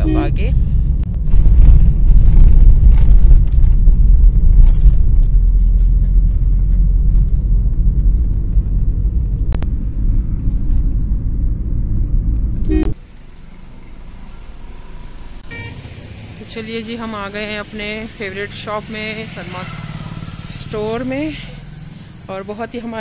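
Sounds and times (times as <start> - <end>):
car driving heard from cabin: 0.0 - 22.4.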